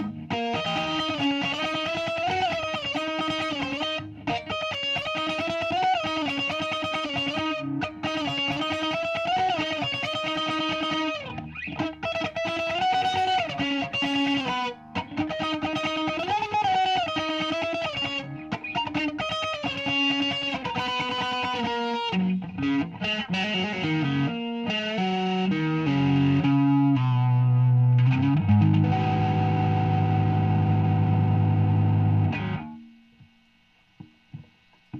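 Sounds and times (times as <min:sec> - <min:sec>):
electric guitar lead notes: 0:00.0 - 0:33.3.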